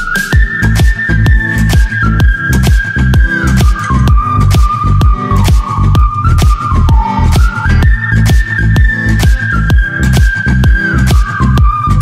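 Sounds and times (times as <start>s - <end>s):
kick drum beat: 0.3s - 12.0s.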